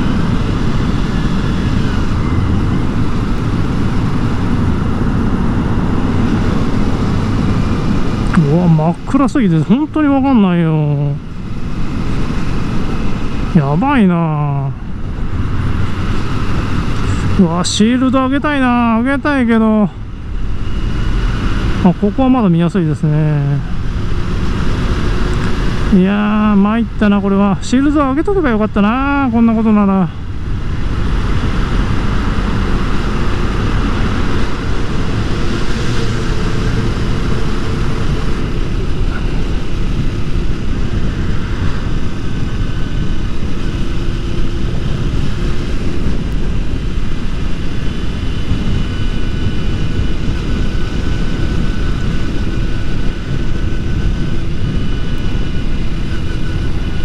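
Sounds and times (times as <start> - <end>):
motorcycle engine drone: 0.0 - 57.0
wind rush on microphone: 0.0 - 57.0.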